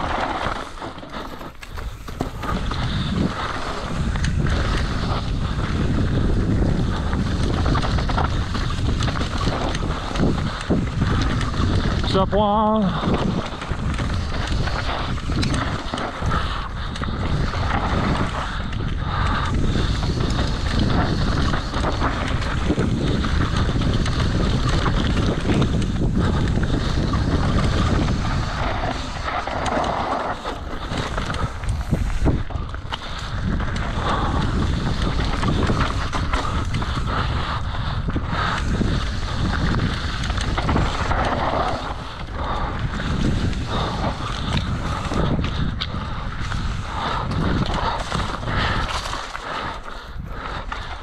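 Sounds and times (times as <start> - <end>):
mountain bike rumbling on trail: 0.0 - 51.0
wind buffeting microphone: 0.0 - 51.0.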